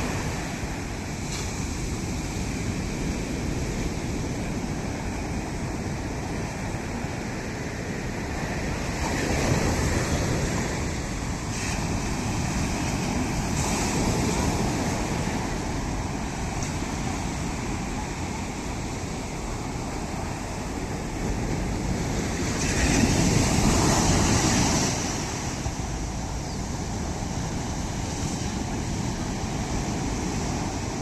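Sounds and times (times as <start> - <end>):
sea waves breaking on shore: 0.0 - 31.0
wind noise on microphone: 0.0 - 31.0.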